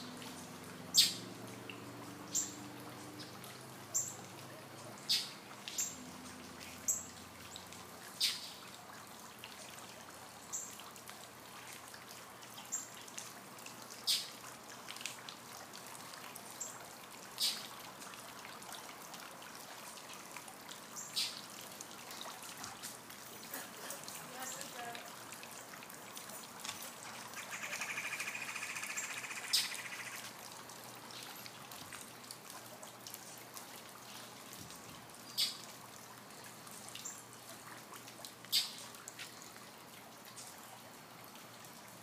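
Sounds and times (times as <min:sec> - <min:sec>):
water trickling in a fountain: 0:00.0 - 0:42.0.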